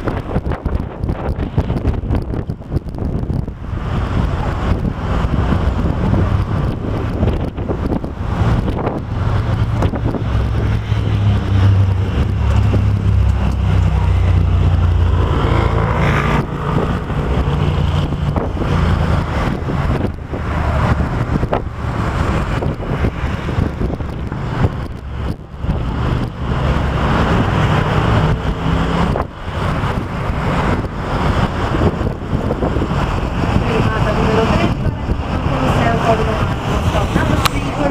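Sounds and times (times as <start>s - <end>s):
bus engine rumbling: 0.0s - 37.9s
wind buffeting microphone: 0.0s - 37.9s.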